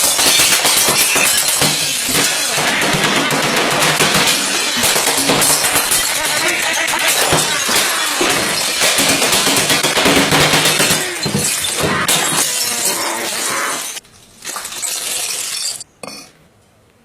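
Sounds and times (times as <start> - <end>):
glass breaking: 0.0 - 15.9.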